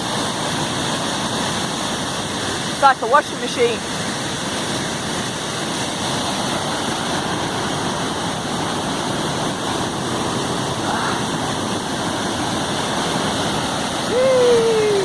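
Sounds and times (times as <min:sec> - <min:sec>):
waterfall and rapids rushing: 0:00.0 - 0:15.0.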